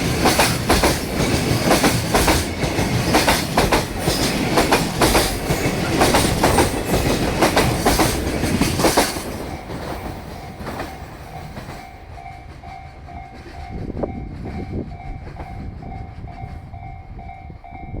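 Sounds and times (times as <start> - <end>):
train wheels clacking over rail joints: 0.0 - 16.8.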